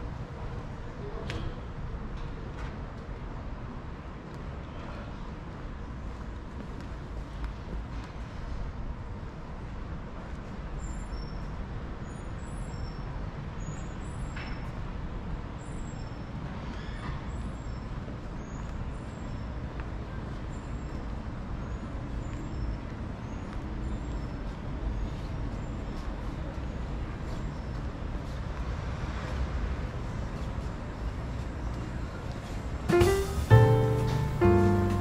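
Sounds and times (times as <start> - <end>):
traffic rumble: 0.0 - 35.0.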